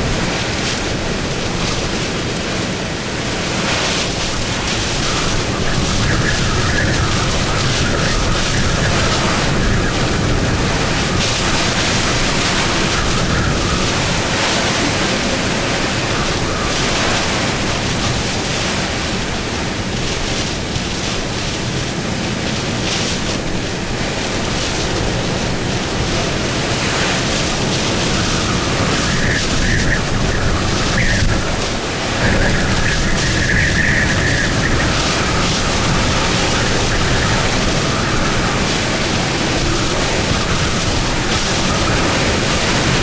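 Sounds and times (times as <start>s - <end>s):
hurricane wind rushing: 0.0s - 43.0s
wind buffeting microphone: 0.0s - 43.0s.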